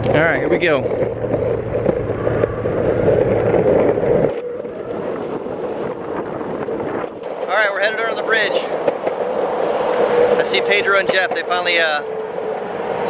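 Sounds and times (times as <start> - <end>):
skateboard wheels rumbling: 0.0 - 13.0
wind on microphone: 0.0 - 13.0.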